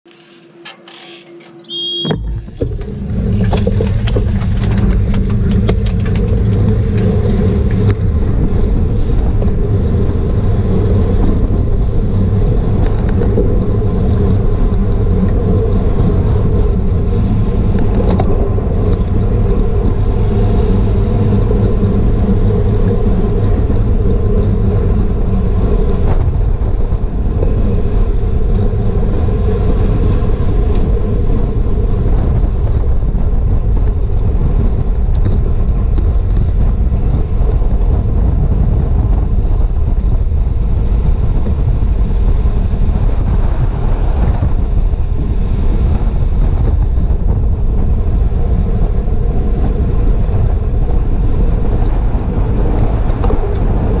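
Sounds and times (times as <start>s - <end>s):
wind rushing over microphone: 1.8s - 54.0s.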